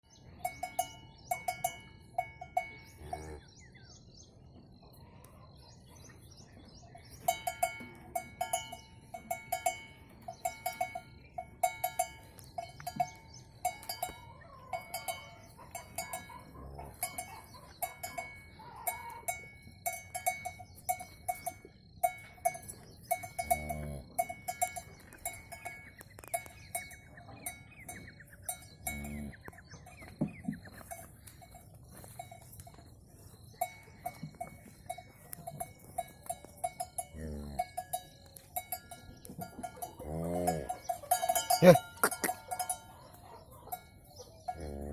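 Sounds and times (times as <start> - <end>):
cowbell clanking: 0.1 - 3.4, 7.0 - 44.9.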